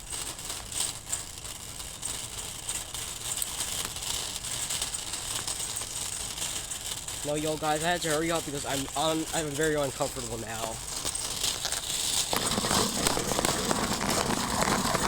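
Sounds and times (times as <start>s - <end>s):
background hiss: 0.0s - 15.0s
faint clicks and rattles: 0.0s - 15.0s.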